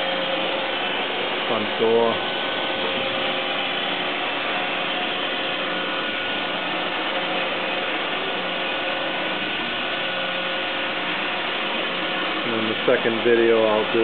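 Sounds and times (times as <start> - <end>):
machining center spindle whirring: 0.0 - 14.0.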